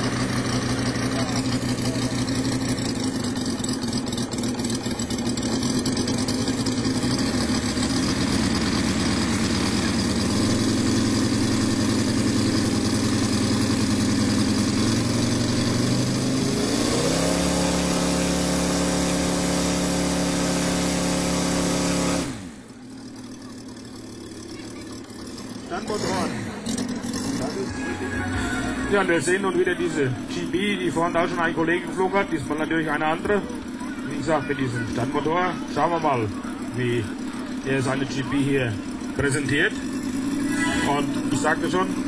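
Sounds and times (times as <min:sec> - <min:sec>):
model aeroplane radial engine running: 0:00.0 - 0:16.2, 0:17.4 - 0:27.6, 0:29.0 - 0:42.0.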